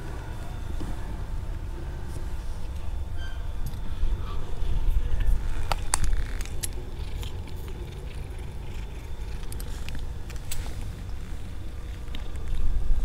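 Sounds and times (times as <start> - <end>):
wind rumble on microphone: 0.2 - 13.0.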